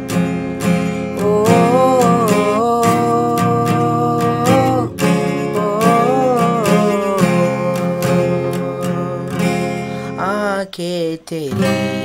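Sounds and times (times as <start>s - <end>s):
acoustic guitar strumming: 0.0s - 12.0s
man singing long notes: 1.2s - 12.0s.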